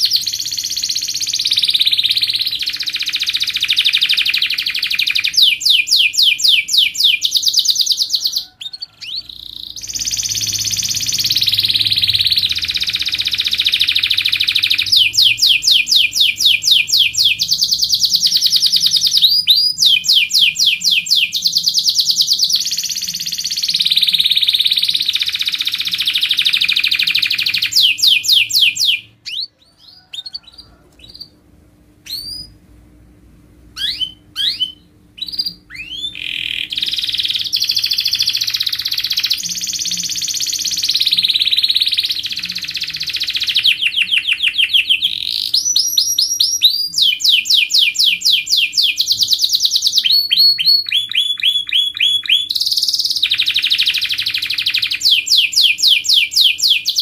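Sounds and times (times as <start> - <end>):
canary singing trills: 0.0 - 31.4, 32.0 - 32.6, 33.8 - 57.0.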